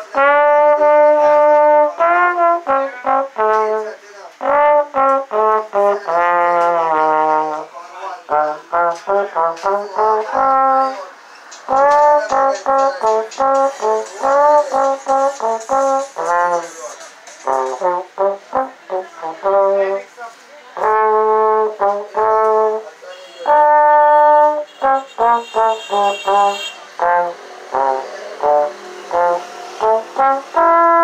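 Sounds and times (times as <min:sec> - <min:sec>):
slide trombone melody: 0:00.0 - 0:20.1, 0:20.8 - 0:31.0.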